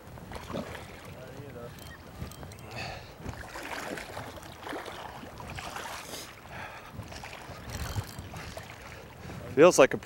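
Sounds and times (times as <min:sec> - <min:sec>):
river water running: 0:00.0 - 0:10.0
wind buffeting microphone: 0:00.0 - 0:10.0.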